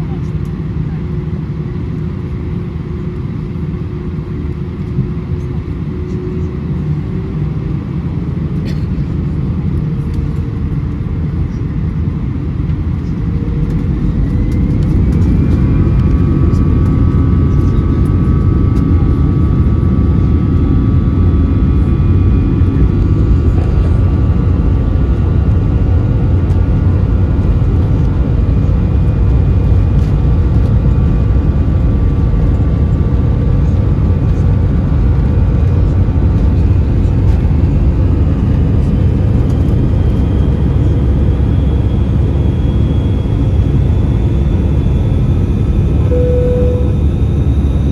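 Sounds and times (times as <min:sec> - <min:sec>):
jet engine whine: 0:00.0 - 0:47.9
jet engines rumbling: 0:03.1 - 0:47.9.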